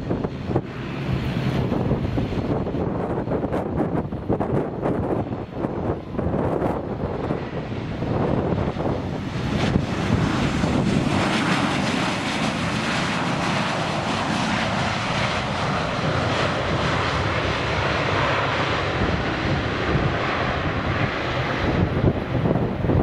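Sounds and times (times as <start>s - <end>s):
jet engines rushing: 0.0s - 23.0s
wind buffeting microphone: 0.0s - 23.0s.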